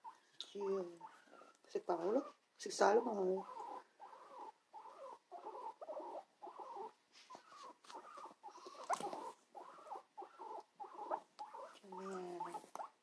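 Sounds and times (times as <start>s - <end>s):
guinea pig calls: 0.0s - 13.0s.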